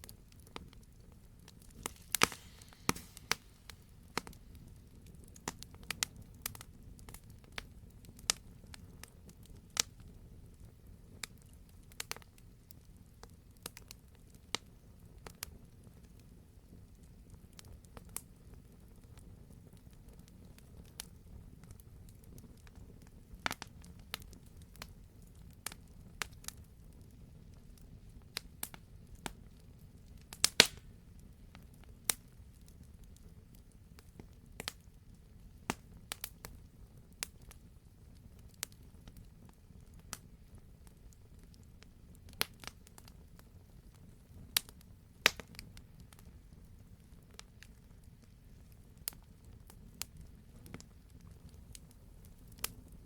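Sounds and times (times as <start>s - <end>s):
low fire rumble: 0.0s - 53.0s
wood fire popping and snapping: 0.0s - 53.0s.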